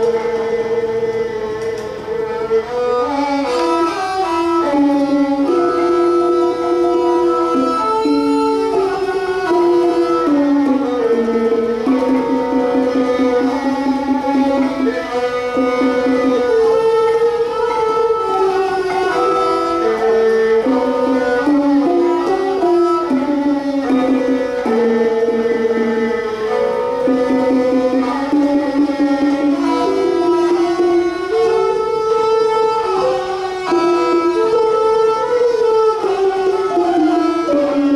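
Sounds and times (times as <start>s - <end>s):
bowed two-string fiddles: 0.0s - 37.9s
wooden xylophone rolls: 0.0s - 37.9s.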